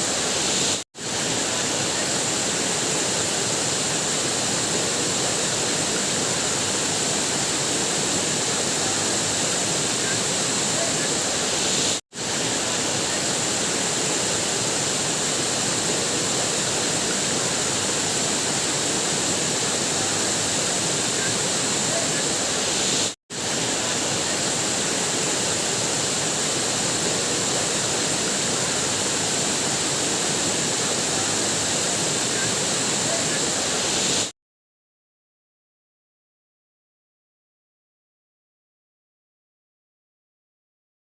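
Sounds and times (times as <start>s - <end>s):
waterfall rushing: 0.0s - 34.3s.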